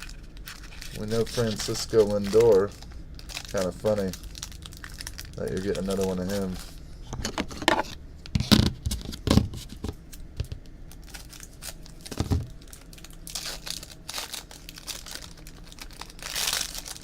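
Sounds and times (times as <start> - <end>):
card pack wrapper crinkling: 0.0 - 6.8, 9.0 - 17.0.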